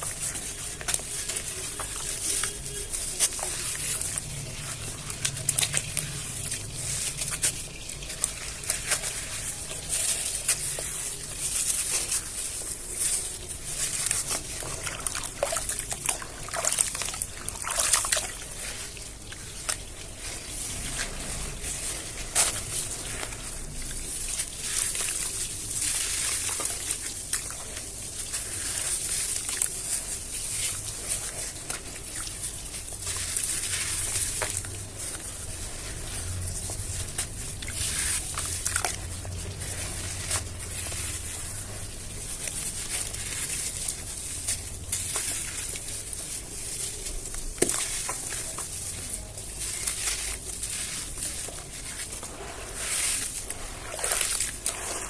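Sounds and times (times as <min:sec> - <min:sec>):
grains pattering down: 0:00.0 - 0:55.0.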